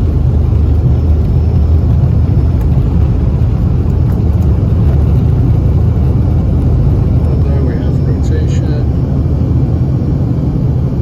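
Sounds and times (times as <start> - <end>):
passenger airplane low rumble: 0.0 - 11.0.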